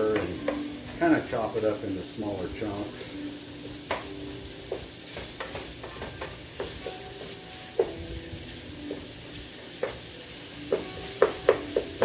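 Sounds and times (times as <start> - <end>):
meat sizzling in a frying pan: 0.0 - 12.0
wooden spatula knocking on pan: 0.1 - 1.7, 3.7 - 12.0.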